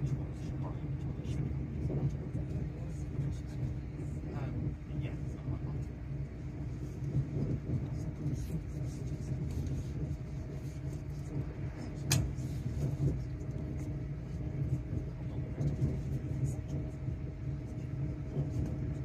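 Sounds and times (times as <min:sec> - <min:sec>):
faint steady hum: 0:00.0 - 0:19.0
train cabin rumble: 0:00.0 - 0:19.0.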